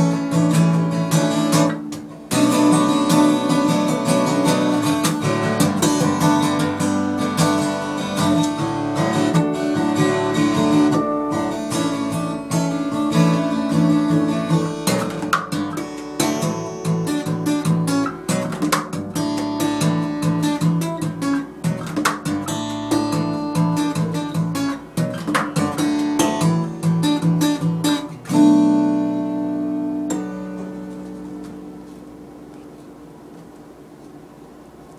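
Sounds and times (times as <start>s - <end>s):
acoustic guitar playing: 0.0s - 34.9s.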